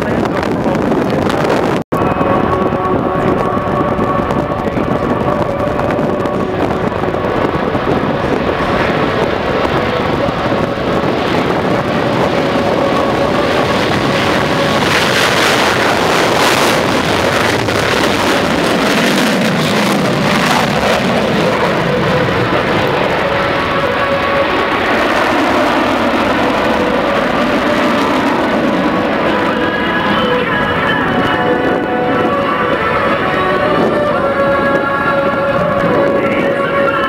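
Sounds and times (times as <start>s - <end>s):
fighter jet roar passing: 0.0s - 37.0s.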